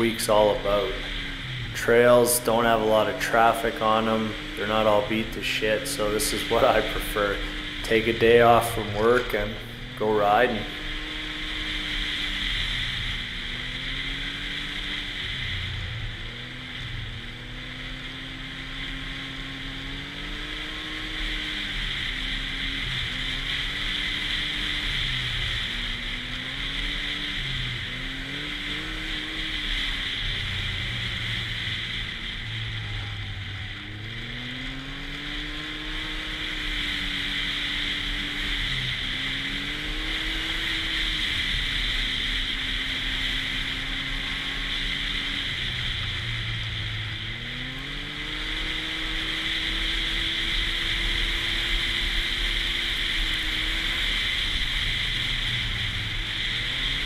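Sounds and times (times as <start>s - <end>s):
snowmobile engine revving: 0.0s - 57.0s
steady high whine: 0.0s - 57.0s.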